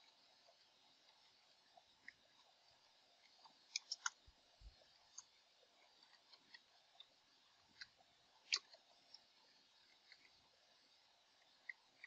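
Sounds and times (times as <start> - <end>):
quiet hiss: 0.0 - 12.0.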